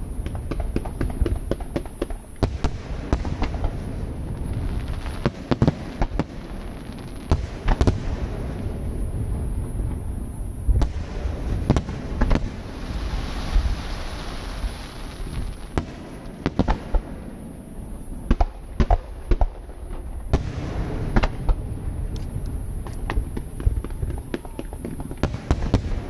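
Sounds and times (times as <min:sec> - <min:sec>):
fireworks booming: 0:00.0 - 0:26.0
fireworks hissing crackle: 0:00.0 - 0:26.0.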